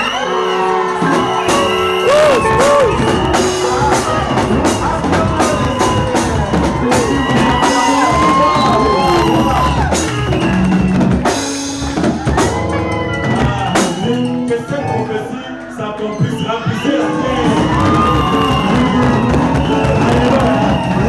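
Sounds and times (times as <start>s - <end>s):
bass drum and snare beat: 1.0s - 14.4s, 17.3s - 21.0s.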